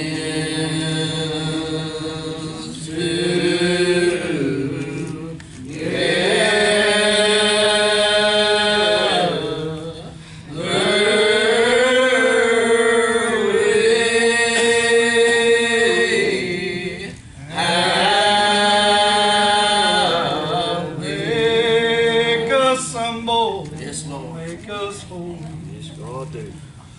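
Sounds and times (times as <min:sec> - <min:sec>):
church choir singing: 0:00.0 - 0:22.9.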